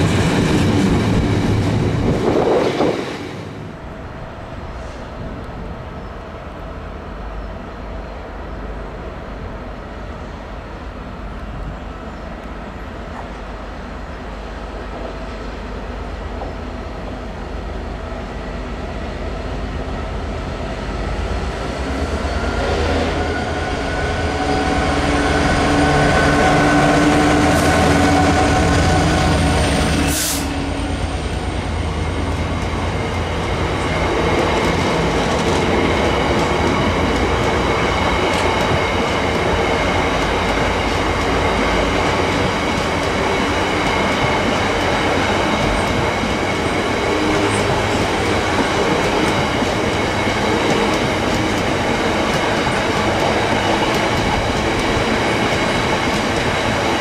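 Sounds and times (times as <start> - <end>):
diesel locomotive passing: 0.0 - 57.0.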